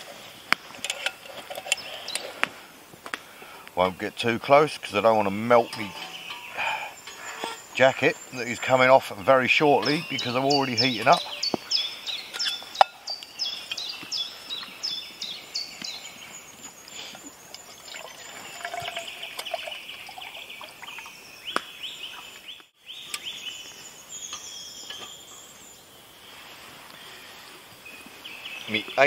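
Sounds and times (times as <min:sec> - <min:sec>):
songbirds singing: 0:00.0 - 0:02.6, 0:03.2 - 0:29.0.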